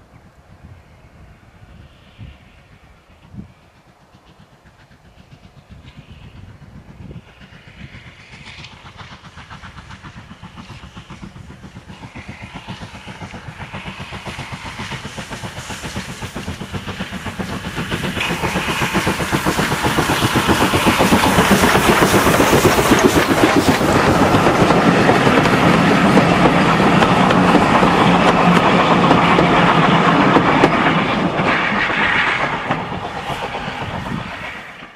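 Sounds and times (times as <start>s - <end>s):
steam locomotive passing: 0.0s - 34.9s.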